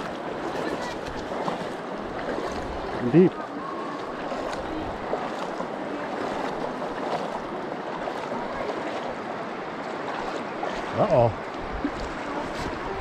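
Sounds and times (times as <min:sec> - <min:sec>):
river rushing: 0:00.0 - 0:13.0
water splashes: 0:00.0 - 0:13.0.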